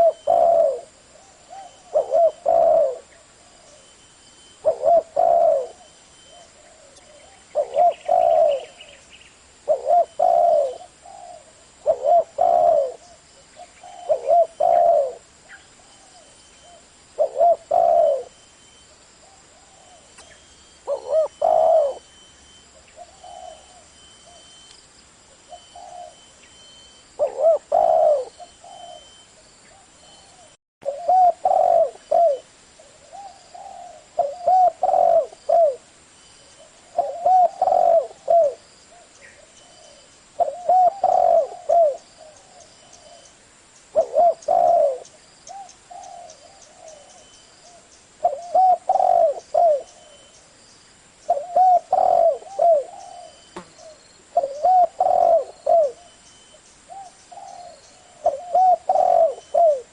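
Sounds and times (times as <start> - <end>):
dove cooing: 0.0 - 3.9, 4.5 - 9.0, 9.6 - 18.5, 19.2 - 24.6, 25.3 - 26.3, 27.2 - 35.9, 36.6 - 43.3, 43.9 - 50.4, 51.3 - 59.9.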